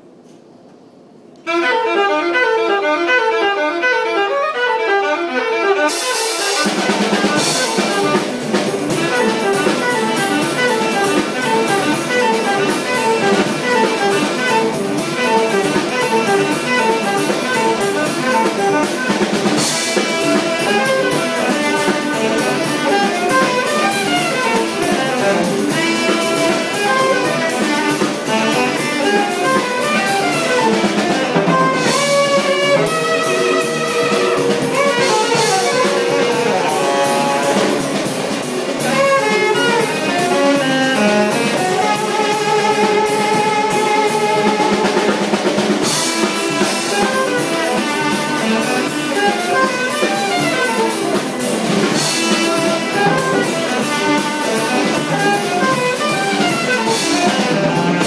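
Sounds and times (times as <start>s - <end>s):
piano: 0.0s - 58.0s
electric guitar: 1.4s - 58.0s
drum kit beat: 3.8s - 58.0s.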